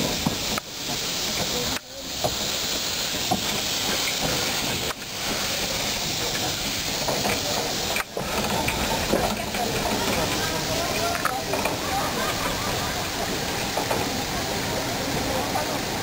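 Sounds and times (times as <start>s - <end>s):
steam locomotive hissing steam: 0.0s - 16.0s.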